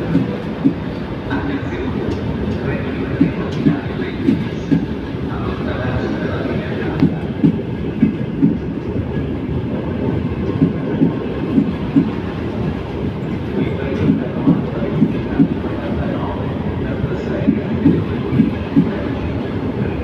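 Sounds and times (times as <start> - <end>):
train carriages rumbling: 0.0 - 20.0.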